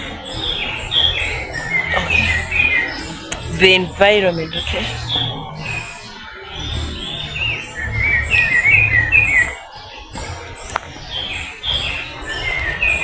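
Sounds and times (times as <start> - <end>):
birds chirping and warbling: 0.0 - 13.0.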